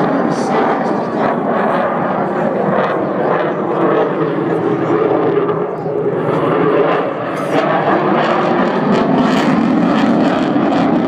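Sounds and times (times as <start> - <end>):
fighter jet roar: 0.0 - 11.0.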